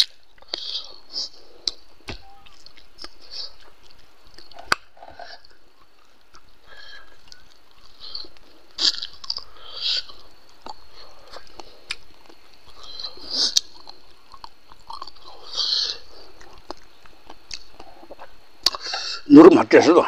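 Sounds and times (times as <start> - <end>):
person chewing food: 0.0 - 19.2.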